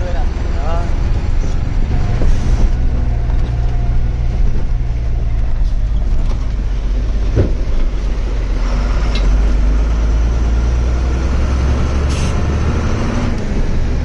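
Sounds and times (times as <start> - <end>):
diesel truck engine running: 0.0 - 14.0
road noise: 0.0 - 14.0.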